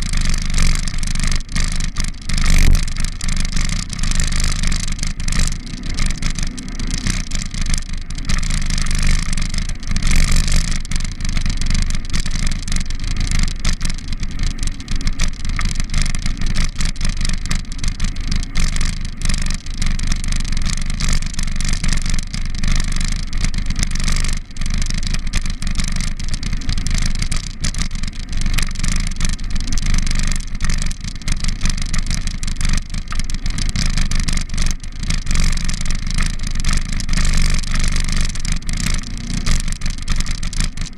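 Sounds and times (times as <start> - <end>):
bicycle road rumble and rattles: 0.0 - 40.9.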